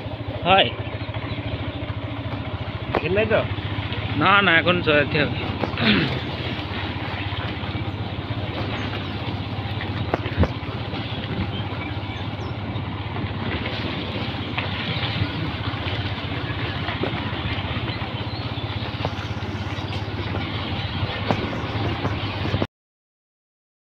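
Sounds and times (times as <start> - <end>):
motorcycle engine running: 0.0 - 22.7
road and air noise: 0.0 - 22.7.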